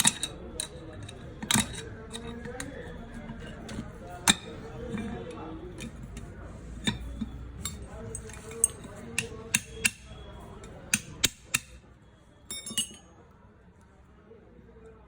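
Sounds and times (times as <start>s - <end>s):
tool tapping on metal: 0.0s - 11.8s, 12.5s - 13.1s.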